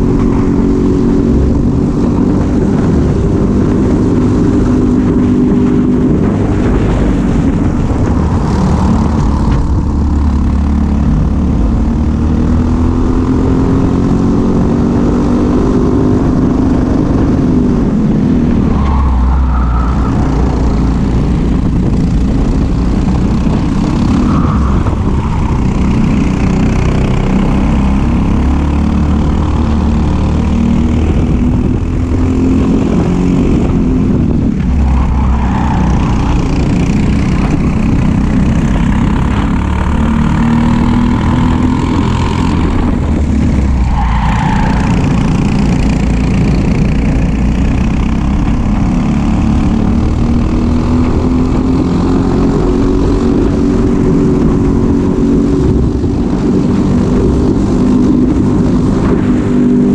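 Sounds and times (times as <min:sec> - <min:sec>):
kart engine racing: 0:00.0 - 0:59.9.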